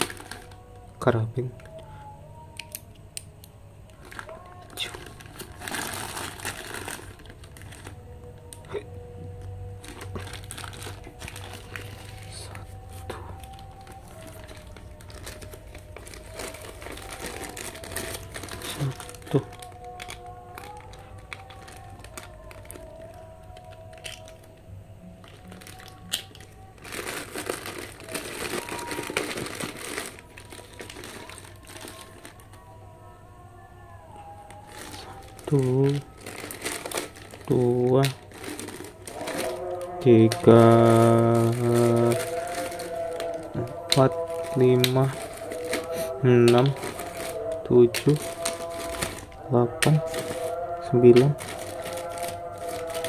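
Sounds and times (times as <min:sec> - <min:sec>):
plastic bag crinkling: 0:00.0 - 0:02.8, 0:03.8 - 0:32.8, 0:34.2 - 0:53.0
small plastic items clicking: 0:02.5 - 0:08.8, 0:09.4 - 0:24.5, 0:25.2 - 0:32.4, 0:34.5 - 0:53.0.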